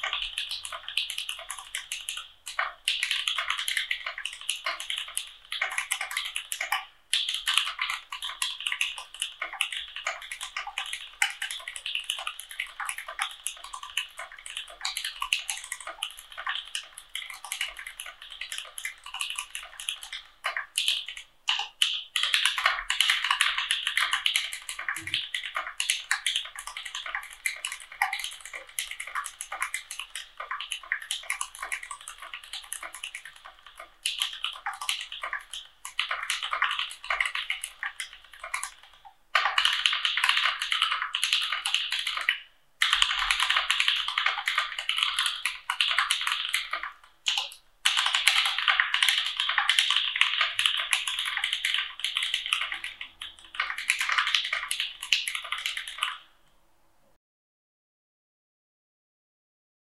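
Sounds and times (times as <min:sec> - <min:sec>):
fast typing on mechanical keyboard: 0:00.0 - 0:56.3.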